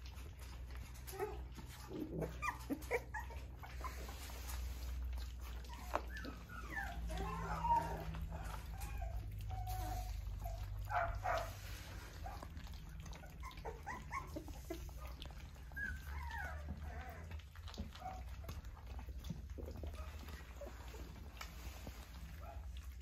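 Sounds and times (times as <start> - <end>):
puppies squeaking and whimpering: 0.0 - 23.0.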